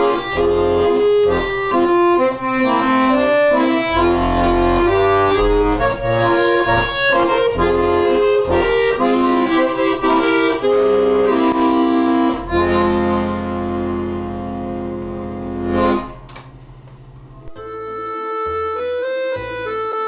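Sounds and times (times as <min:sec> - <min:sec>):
accordion folk melody: 0:00.0 - 0:16.5, 0:17.4 - 0:20.0.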